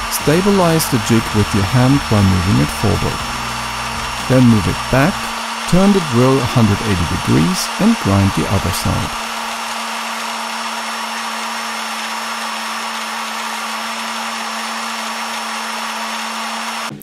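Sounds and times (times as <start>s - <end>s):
steady low hum: 0.0s - 16.1s
drill press grinding whir: 0.0s - 17.0s.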